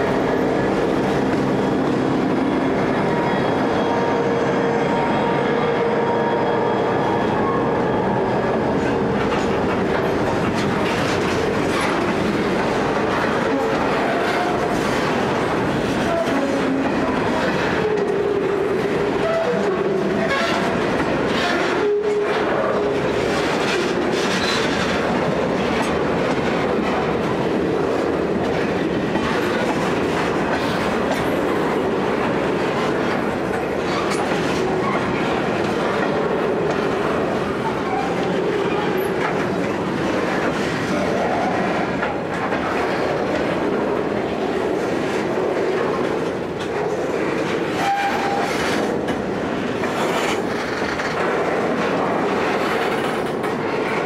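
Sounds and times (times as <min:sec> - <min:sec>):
diesel locomotive engine: 0:00.0 - 0:54.0
train wheels rumbling: 0:00.0 - 0:54.0.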